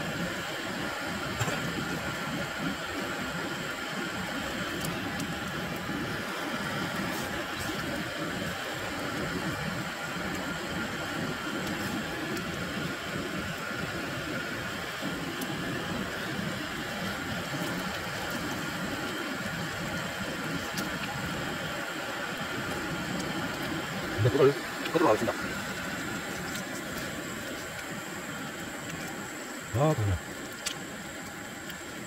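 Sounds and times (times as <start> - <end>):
stove burner roaring: 0.1 - 29.9.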